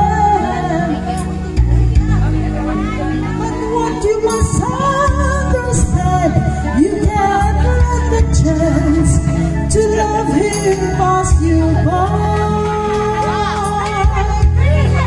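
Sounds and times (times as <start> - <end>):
pop song with heavy bass: 0.0 - 15.0.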